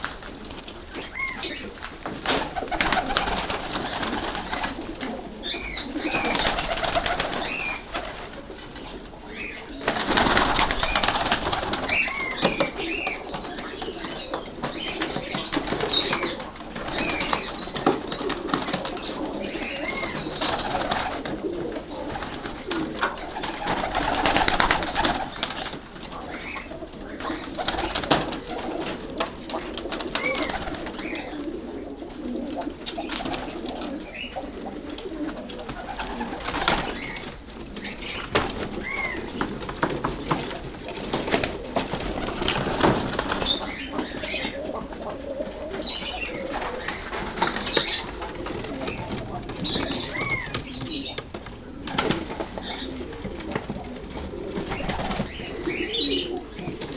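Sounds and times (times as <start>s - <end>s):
pigeons cooing: 0.0s - 56.9s.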